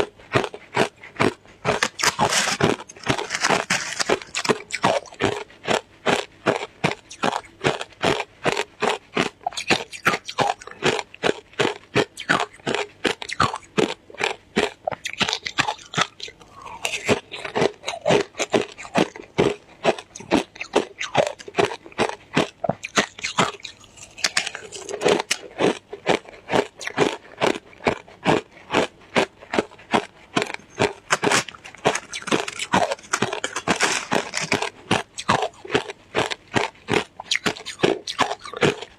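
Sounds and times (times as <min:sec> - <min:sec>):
shaved ice being chewed: 0:00.0 - 0:38.9.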